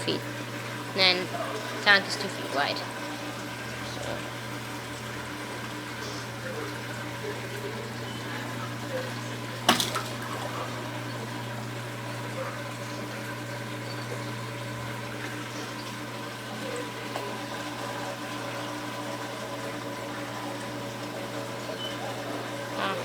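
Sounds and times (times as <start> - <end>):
pump hum: 0.0 - 23.0
water trickling: 0.0 - 23.0.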